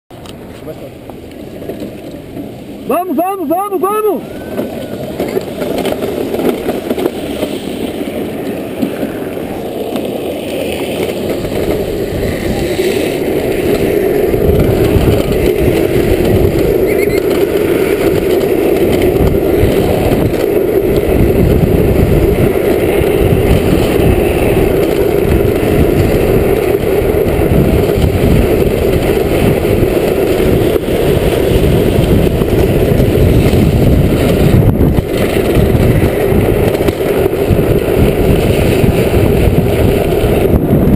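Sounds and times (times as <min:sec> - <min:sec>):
wheels rolling on asphalt: 0:00.1 - 0:40.9
wind buffeting microphone: 0:04.2 - 0:40.9.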